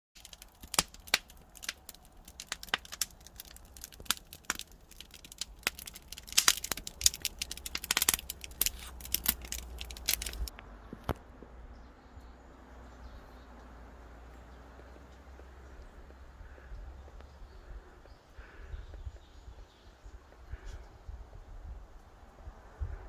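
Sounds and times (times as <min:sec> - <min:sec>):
fire crackling and popping: 0:00.2 - 0:11.2, 0:13.5 - 0:23.0.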